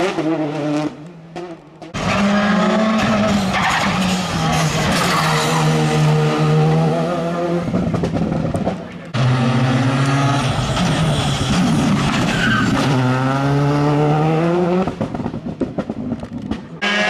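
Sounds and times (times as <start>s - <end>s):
rally car engines at full throttle: 0.0s - 17.0s.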